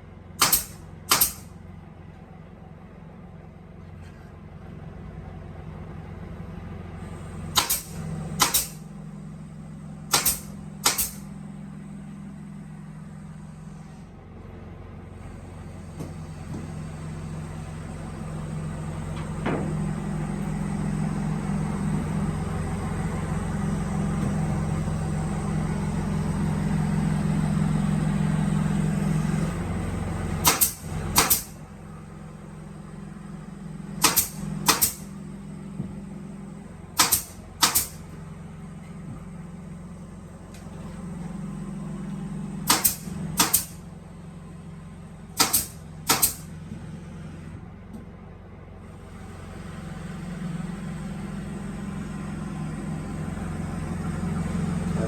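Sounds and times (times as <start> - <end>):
woodworking machine motor humming: 7.0 - 14.2, 15.0 - 55.0.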